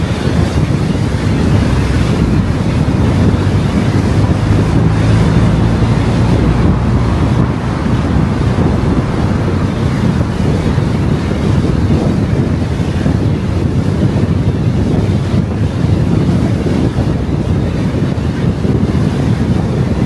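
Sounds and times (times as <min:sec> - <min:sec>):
car wind and road noise: 0:00.0 - 0:20.0
faint low engine hum: 0:00.0 - 0:20.0.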